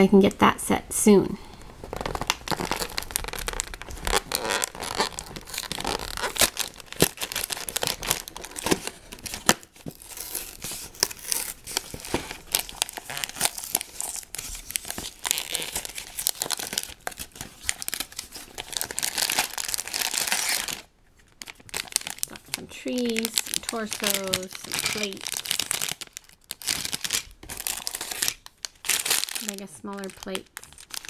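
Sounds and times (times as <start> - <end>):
packaging being torn and crinkled: 1.6 - 31.0.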